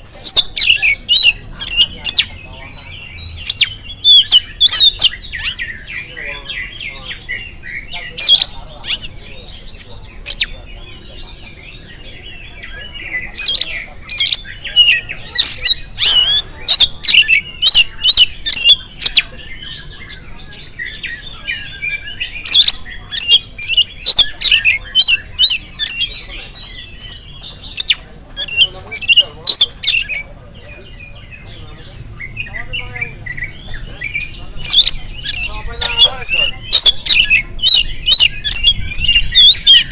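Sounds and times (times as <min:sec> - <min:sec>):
bird singing whistled notes: 0:00.2 - 0:30.3, 0:30.9 - 0:39.9.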